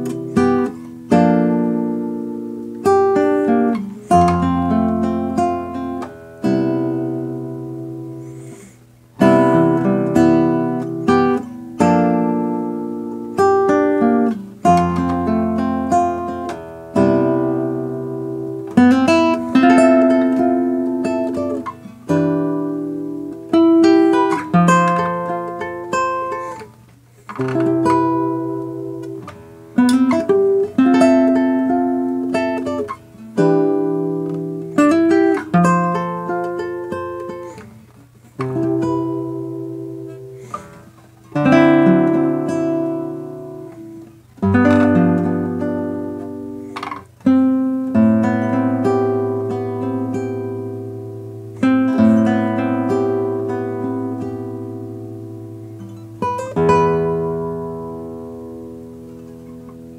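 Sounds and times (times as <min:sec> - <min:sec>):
fingerstyle classical guitar: 0:00.0 - 0:59.9.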